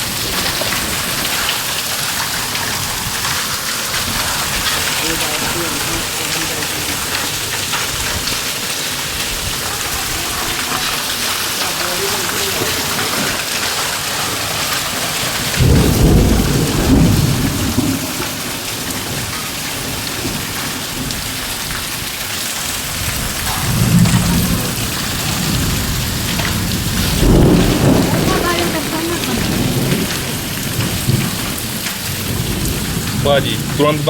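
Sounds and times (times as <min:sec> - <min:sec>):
rain and hail pouring: 0:00.0 - 0:34.0
thunder rumbling: 0:00.0 - 0:34.0.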